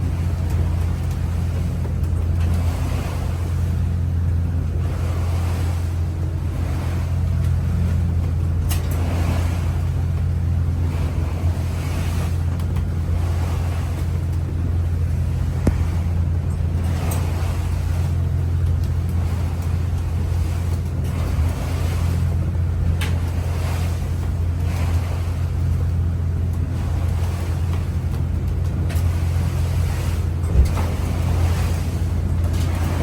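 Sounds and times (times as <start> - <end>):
boat engine drone: 0.0 - 33.0
waves splashing against hull: 0.0 - 33.0.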